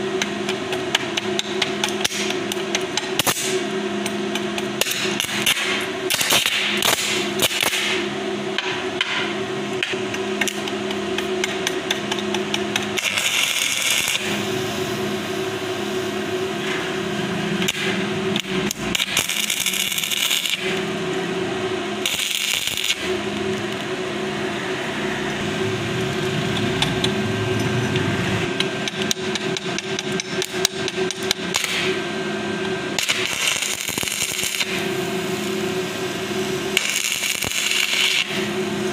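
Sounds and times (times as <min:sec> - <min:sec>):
welding arc crackling: 0:00.0 - 0:09.1, 0:09.7 - 0:38.9
steady hum: 0:00.0 - 0:38.9.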